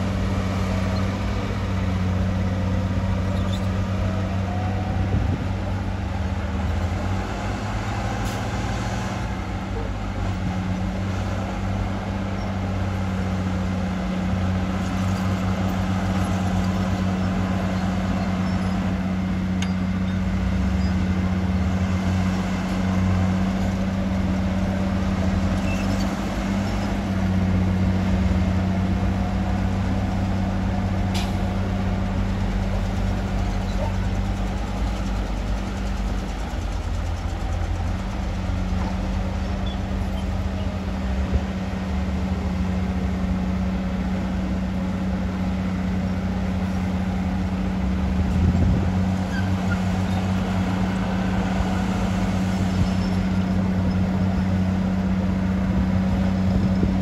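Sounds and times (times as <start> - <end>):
diesel engine running steadily: 0.0 - 57.0.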